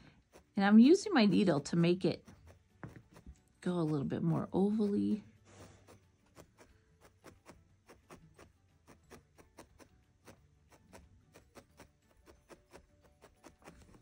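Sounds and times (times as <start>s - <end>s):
felting needle poking wool: 0.0s - 14.0s.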